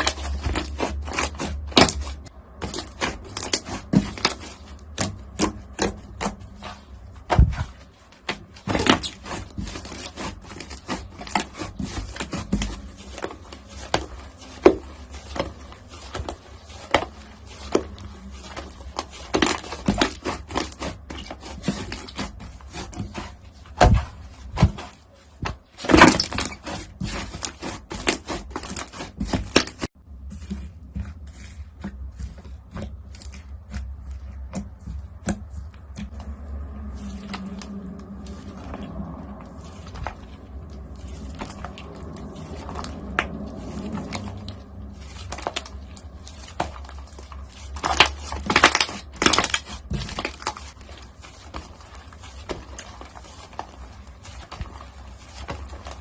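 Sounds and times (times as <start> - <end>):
crunchy slime crackling: 0.0 - 56.0.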